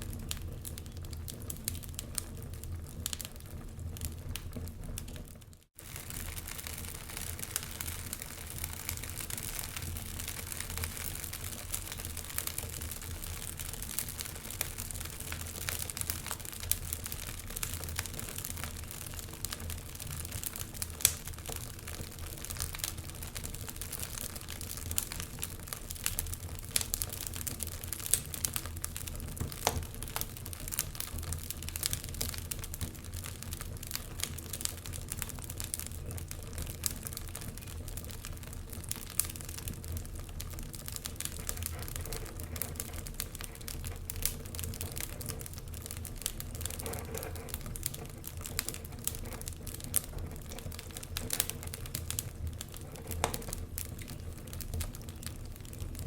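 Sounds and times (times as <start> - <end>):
low rush of flame: 0.0 - 56.0
wood fire crackling: 0.0 - 56.0.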